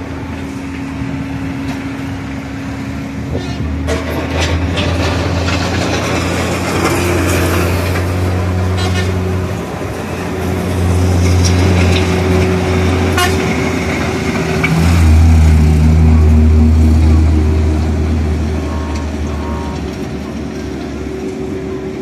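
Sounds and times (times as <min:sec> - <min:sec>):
truck engine passing: 0:00.0 - 0:22.0.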